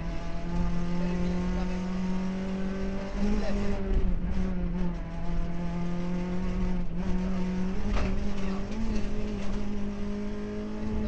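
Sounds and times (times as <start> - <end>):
rally car engine revving hard: 0.0 - 11.0.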